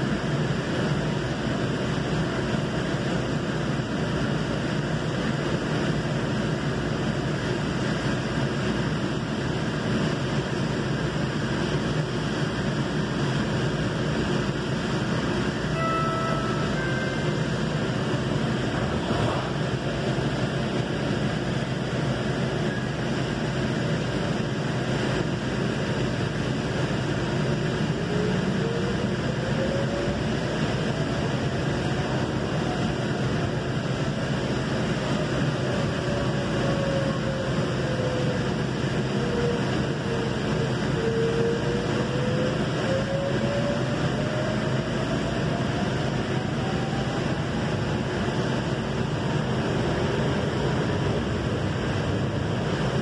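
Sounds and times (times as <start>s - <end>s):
train rumble and hiss: 0.0s - 53.0s.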